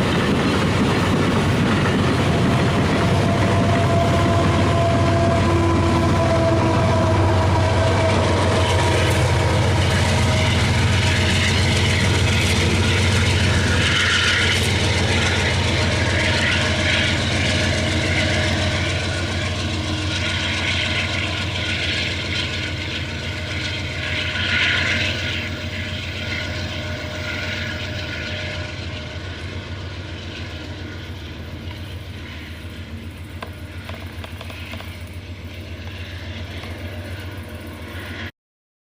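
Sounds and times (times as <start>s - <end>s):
freight train rumbling past: 0.0s - 38.3s.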